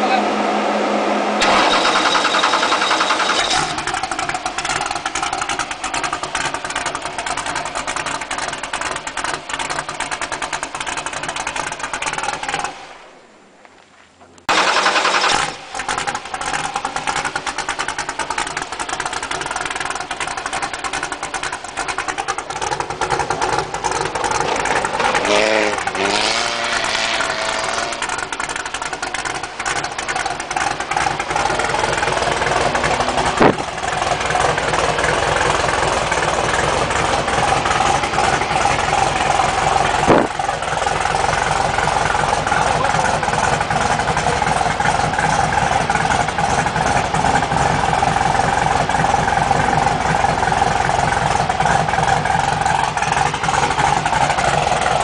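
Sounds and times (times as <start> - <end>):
buggy engine idling with rattle: 1.4 - 12.8, 14.2 - 55.0.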